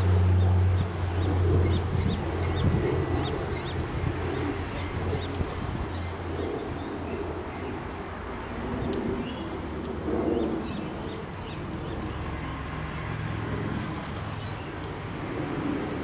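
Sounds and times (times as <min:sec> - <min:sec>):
small birds chirping: 0:00.4 - 0:13.4, 0:14.2 - 0:14.9.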